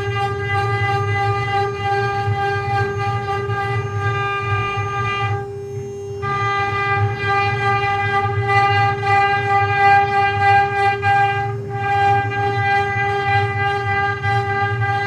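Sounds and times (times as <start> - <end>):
low pulsing hum: 0.0 - 15.0
router spindle whining: 0.0 - 15.0.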